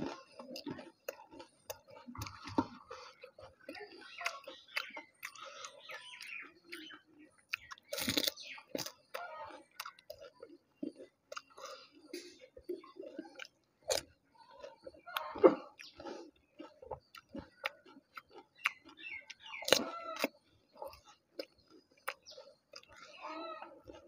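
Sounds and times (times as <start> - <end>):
wet chewing: 0.0 - 24.0.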